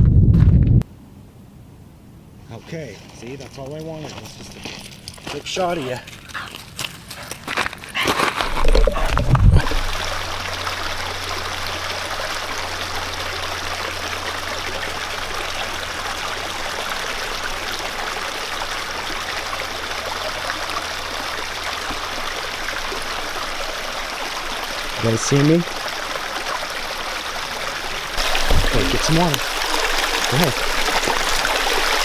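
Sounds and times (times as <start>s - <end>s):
stream water running: 3.2s - 32.0s.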